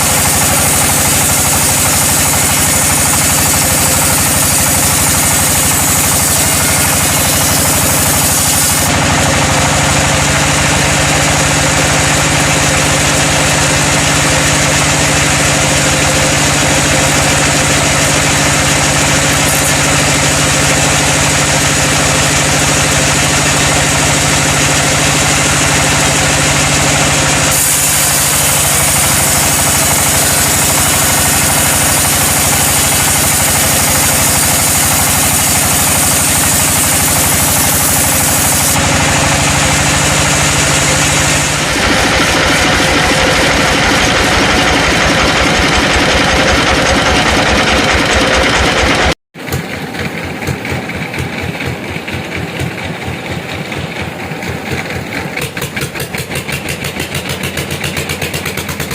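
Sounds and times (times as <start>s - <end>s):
sawmill engine running: 0.0s - 58.9s.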